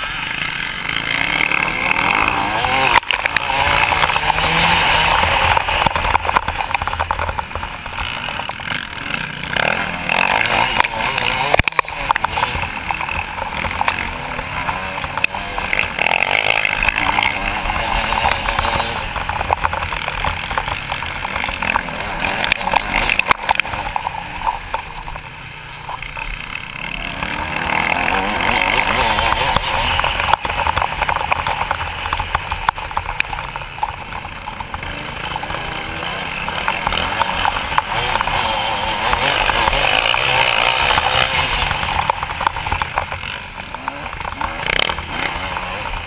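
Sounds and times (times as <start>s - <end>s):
motocross bike engine revving: 0.0s - 46.0s
knocks from rough track: 0.5s - 46.0s.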